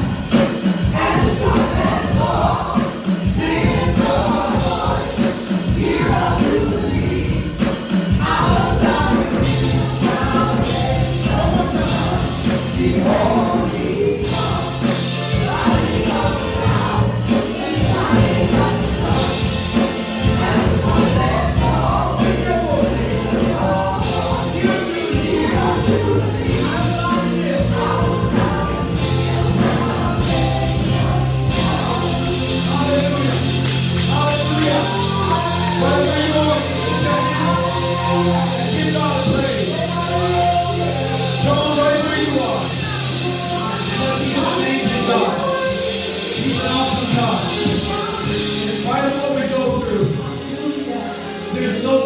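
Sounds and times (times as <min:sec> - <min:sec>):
band with bass and drums: 0:00.0 - 0:52.0
choir singing: 0:00.0 - 0:52.0.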